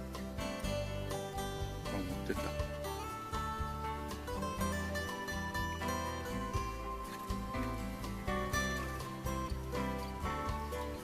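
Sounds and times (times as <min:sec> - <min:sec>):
country-style acoustic music: 0:00.0 - 0:11.0.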